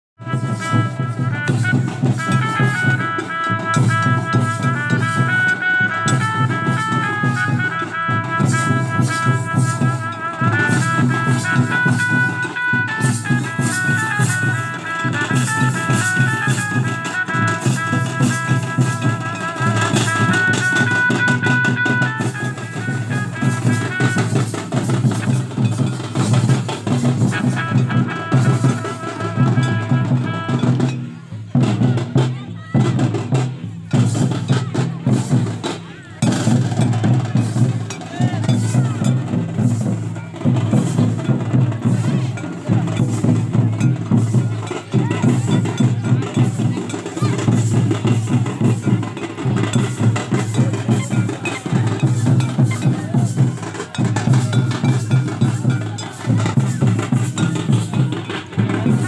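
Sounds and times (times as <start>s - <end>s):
high reedy melody: 0.2s - 31.9s, 35.4s - 59.0s
drums beating: 0.2s - 59.0s
rattling percussion: 0.2s - 59.0s.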